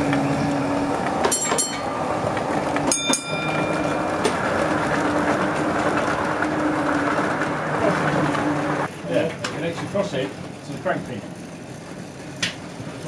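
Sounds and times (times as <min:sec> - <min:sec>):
model train humming on track: 0:00.0 - 0:13.0.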